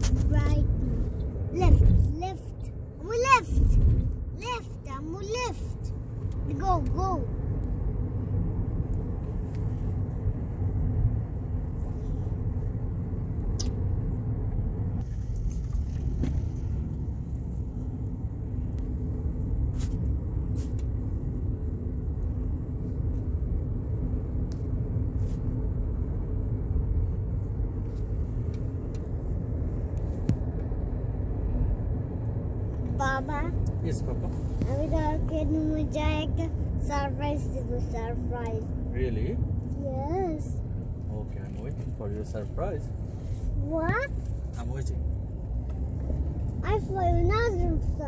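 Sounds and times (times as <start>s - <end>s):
vehicle road and engine rumble: 0.0s - 48.0s.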